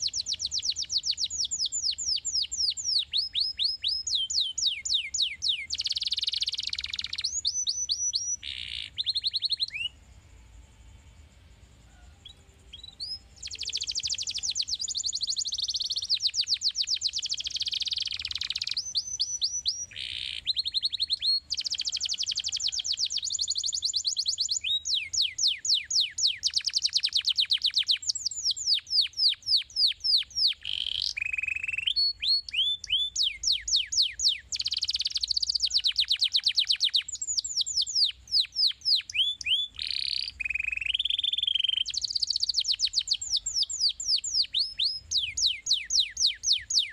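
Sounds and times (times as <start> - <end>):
canary singing trills: 0.0 - 10.8, 11.7 - 46.9.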